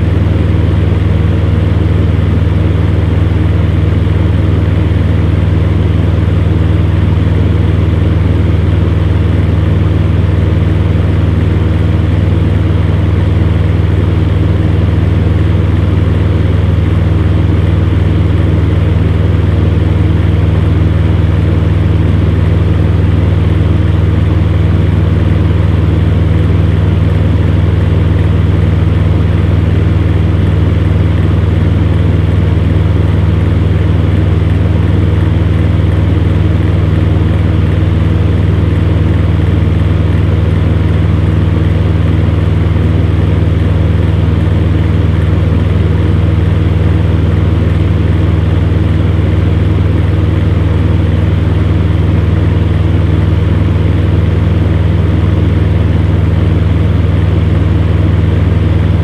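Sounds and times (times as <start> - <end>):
fan heater running: 0.0 - 59.0.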